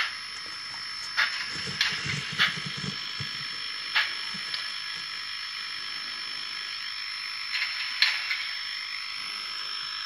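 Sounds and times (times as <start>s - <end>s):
model locomotive hiss with whine: 0.0s - 10.0s.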